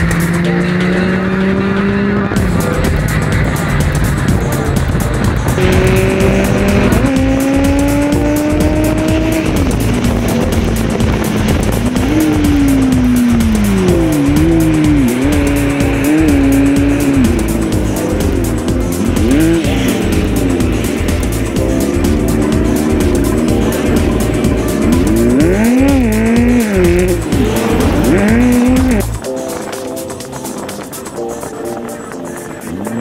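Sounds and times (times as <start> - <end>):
car engine revving: 0.0 - 29.8, 32.3 - 33.0
music playing: 0.0 - 33.0
road noise: 0.0 - 33.0.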